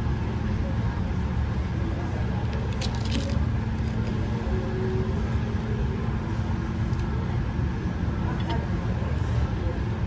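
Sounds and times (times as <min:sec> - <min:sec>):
restaurant background rumble: 0:00.0 - 0:10.0.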